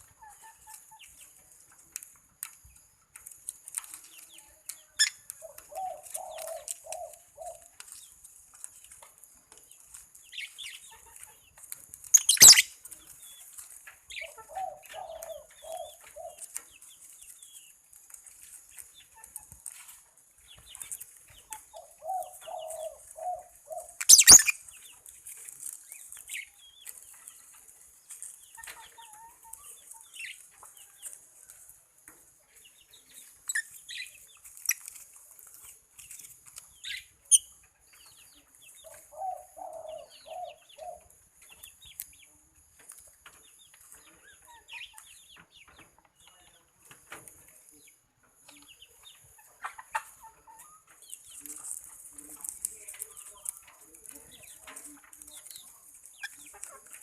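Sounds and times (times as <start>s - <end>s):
birds chirping: 2.4s - 31.6s, 32.3s - 57.0s.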